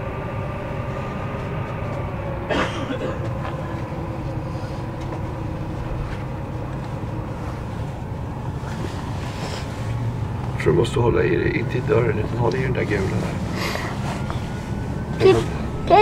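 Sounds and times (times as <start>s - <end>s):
train carriage rumble on rails: 0.0s - 16.0s.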